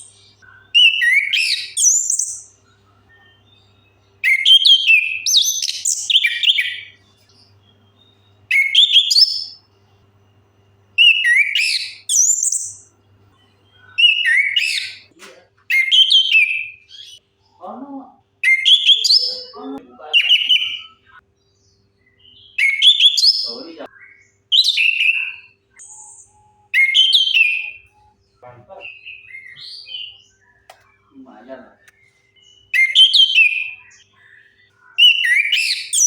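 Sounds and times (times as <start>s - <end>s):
thrush singing whistled phrases: 0.0s - 9.7s, 10.4s - 13.0s, 13.6s - 15.1s, 15.7s - 17.2s, 18.4s - 21.2s, 22.2s - 36.0s.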